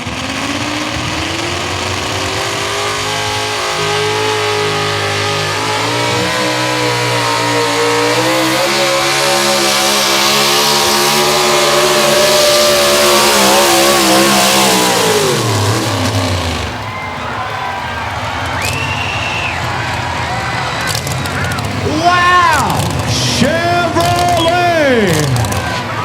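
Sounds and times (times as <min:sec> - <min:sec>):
drag racing car engine at full throttle: 0:00.0 - 0:26.0.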